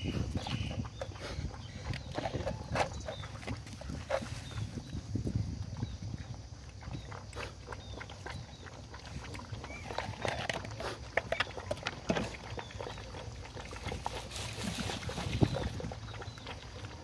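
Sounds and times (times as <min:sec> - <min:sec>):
puppies lapping milk: 0:00.0 - 0:17.0.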